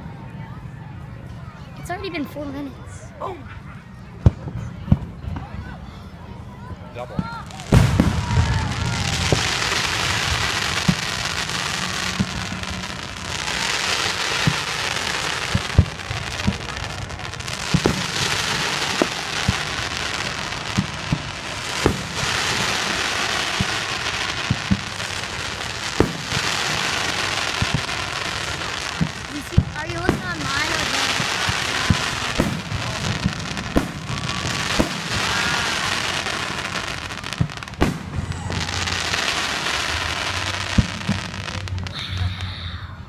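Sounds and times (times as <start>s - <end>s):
fireworks crackling and hissing: 6.7s - 42.9s
firework pops and bangs: 7.2s - 42.0s.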